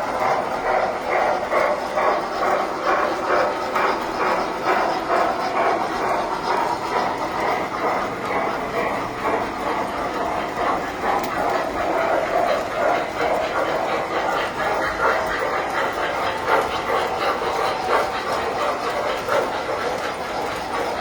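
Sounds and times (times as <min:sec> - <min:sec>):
model trains rolling on track: 0:00.0 - 0:21.0.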